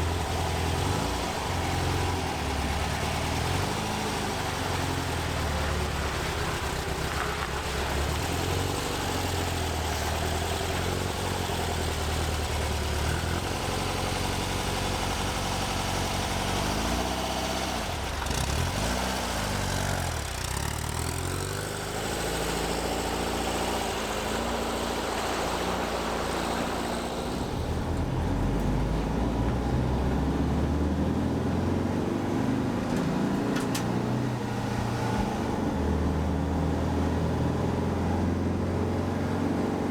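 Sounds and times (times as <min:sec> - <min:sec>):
van engine running: 0:00.0 - 0:39.9.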